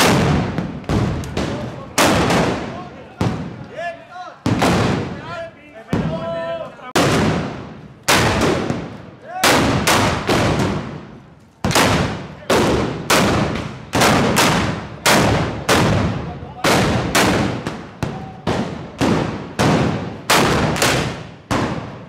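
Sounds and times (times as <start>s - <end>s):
guns firing in a volley: 0.0s - 3.6s, 4.4s - 5.2s, 7.0s - 22.0s.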